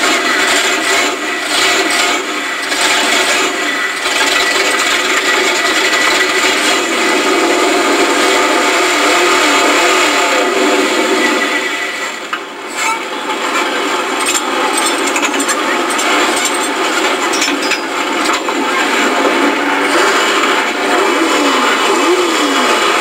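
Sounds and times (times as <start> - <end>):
truck engine running loudly: 0.0 - 23.0.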